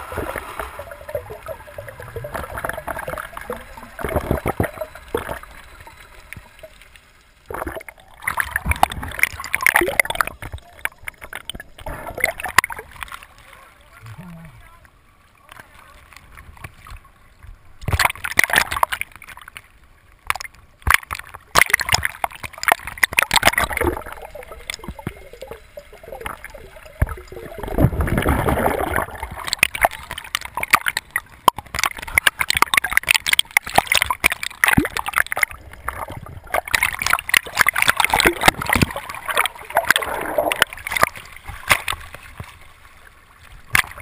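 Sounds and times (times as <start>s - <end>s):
bubbles crackling: 0.0s - 14.6s, 17.8s - 19.6s, 20.2s - 44.0s
water rushing and splashing: 0.0s - 44.0s.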